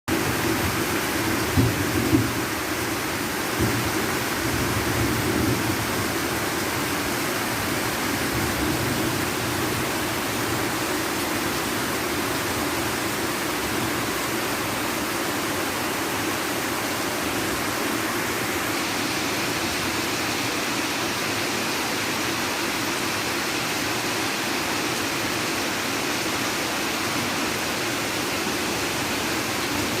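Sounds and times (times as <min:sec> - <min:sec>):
heavy rainfall: 0:00.1 - 0:30.0.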